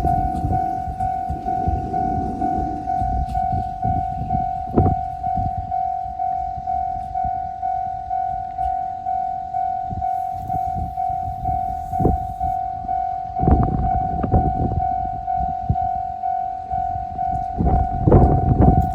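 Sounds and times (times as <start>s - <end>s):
train rumbling past: 0.0s - 15.6s
level crossing warning bell: 0.0s - 18.9s.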